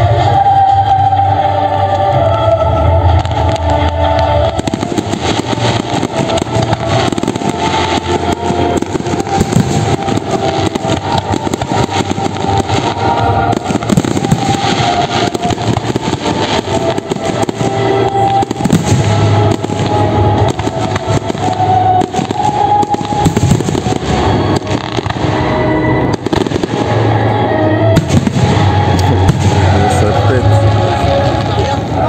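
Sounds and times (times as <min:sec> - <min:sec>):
fireworks bangs and crackling: 0:03.0 - 0:32.0.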